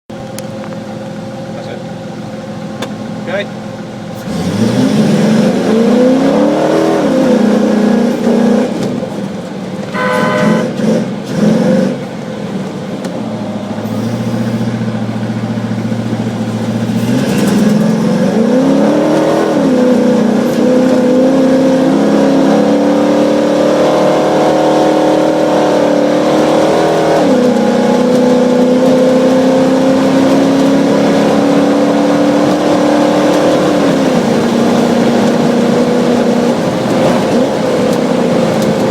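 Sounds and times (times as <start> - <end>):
off-road vehicle engine revving: 1.5 - 38.9.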